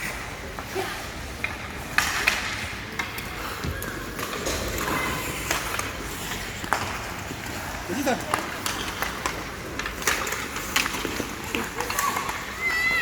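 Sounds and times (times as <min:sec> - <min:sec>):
hockey sticks and puck clacking: 0:00.0 - 0:13.0
ice rink background: 0:00.0 - 0:13.0.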